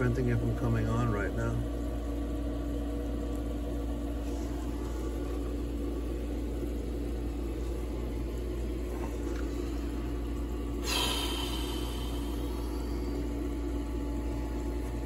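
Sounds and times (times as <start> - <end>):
pool equipment motor hum: 0.0 - 15.0.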